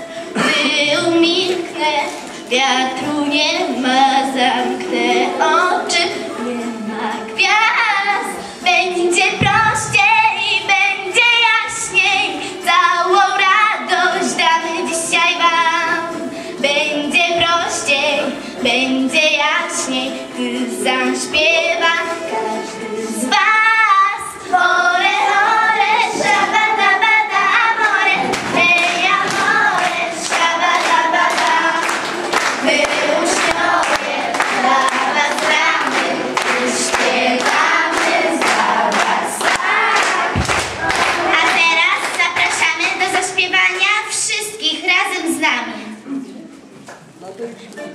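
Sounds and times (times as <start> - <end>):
girls singing into microphones: 0.0 - 46.8.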